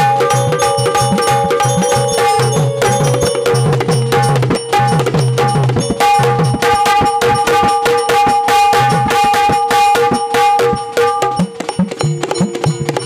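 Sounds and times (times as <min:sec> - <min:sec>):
electronic keyboard notes: 0:00.0 - 0:13.0
fast busy drumming: 0:00.0 - 0:13.0.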